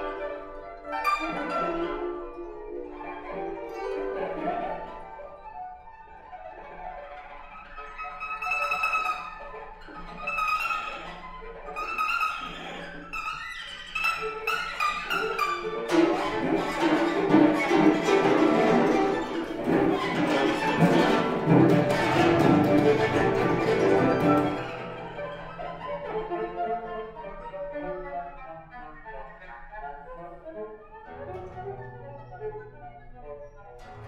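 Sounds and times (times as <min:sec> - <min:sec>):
cello bowed: 0:00.0 - 0:34.0.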